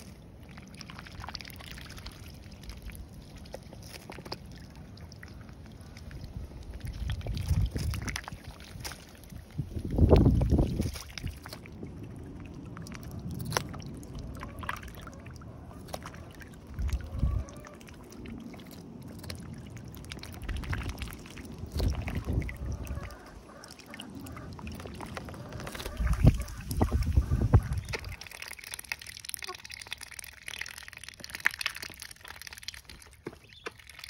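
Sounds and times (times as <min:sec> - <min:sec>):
ducks dabbling in water: 0:00.0 - 0:34.0.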